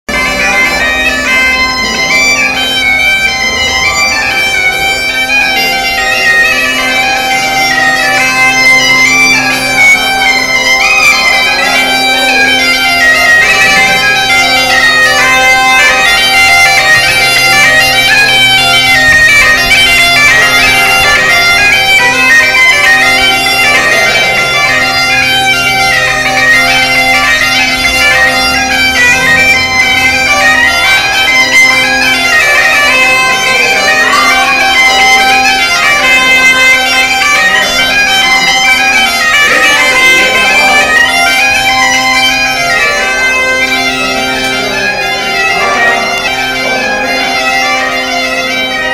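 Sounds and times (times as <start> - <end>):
bagpipe drone: 0.1 - 48.9
bagpipe melody: 0.1 - 48.9.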